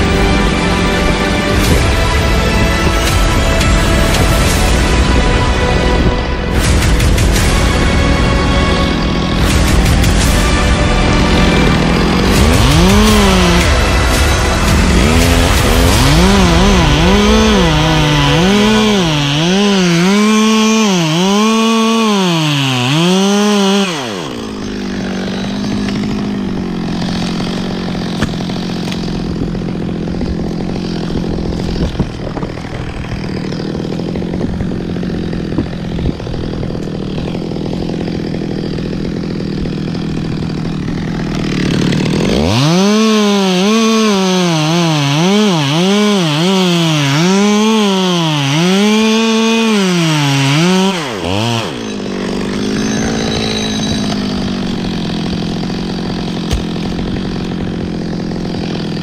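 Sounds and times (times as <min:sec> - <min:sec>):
chainsaw cutting wood: 0:00.0 - 0:59.0
wood cracking: 0:00.0 - 0:59.0.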